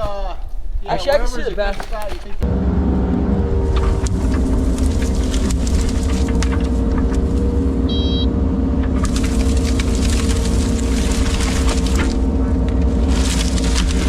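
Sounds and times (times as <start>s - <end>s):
branches snapping and crackling: 0.0s - 2.4s, 3.6s - 7.8s, 8.7s - 14.0s
excavator diesel engine: 2.4s - 14.0s.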